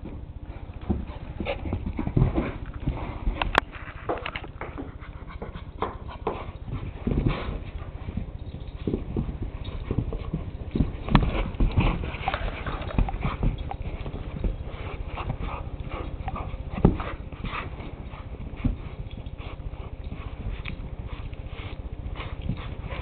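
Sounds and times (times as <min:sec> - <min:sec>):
dogs scuffling and bumping: 0:00.0 - 0:23.0.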